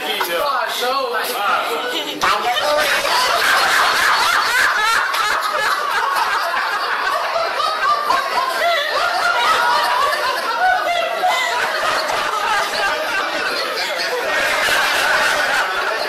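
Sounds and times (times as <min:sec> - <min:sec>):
group of men laughing: 0:01.7 - 0:16.0.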